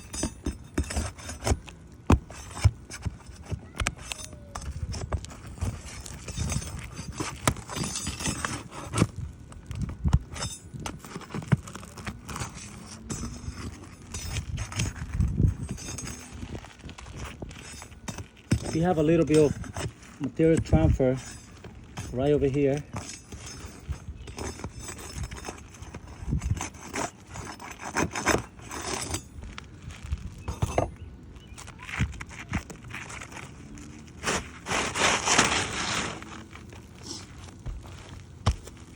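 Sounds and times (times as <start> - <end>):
knocking and scraping on roof shingles: 0.0 - 38.9.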